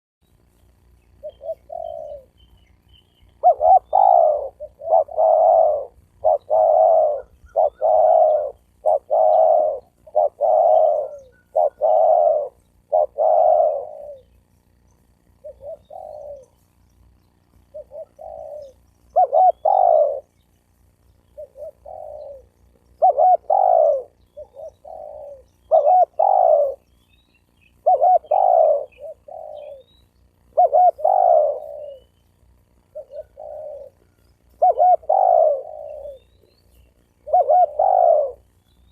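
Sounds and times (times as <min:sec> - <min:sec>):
dove cooing: 0:00.6 - 0:38.9.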